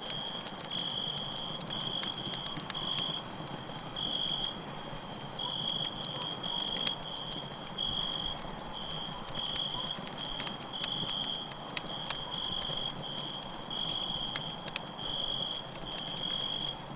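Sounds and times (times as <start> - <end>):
crackling campfire: 0.0 - 16.9
crickets chirping: 0.0 - 16.9.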